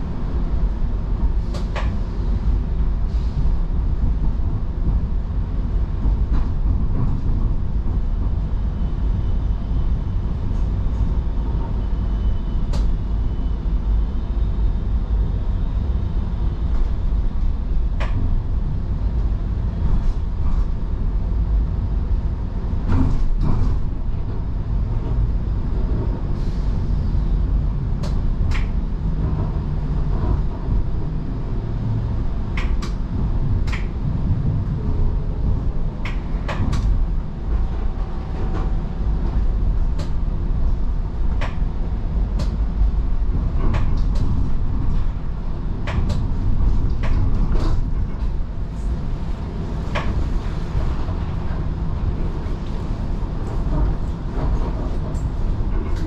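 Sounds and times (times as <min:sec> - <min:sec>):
streetcar interior rumble: 0:00.0 - 0:56.0.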